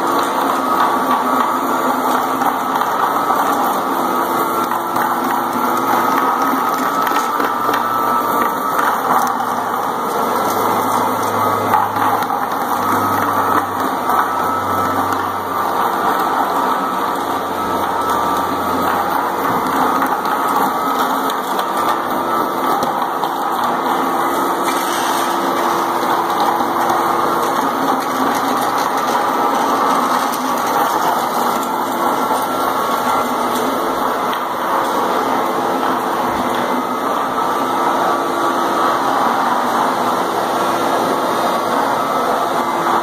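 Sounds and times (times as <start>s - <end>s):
floor polishing machine running: 0.0s - 43.0s.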